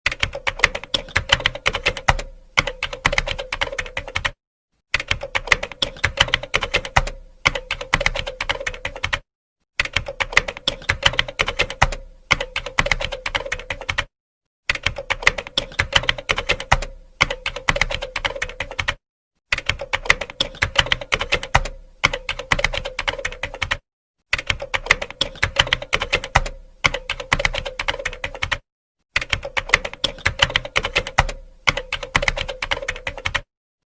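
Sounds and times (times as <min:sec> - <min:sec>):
typing on computer keyboard: 0:00.1 - 0:14.1, 0:14.7 - 0:28.6, 0:29.2 - 0:33.5.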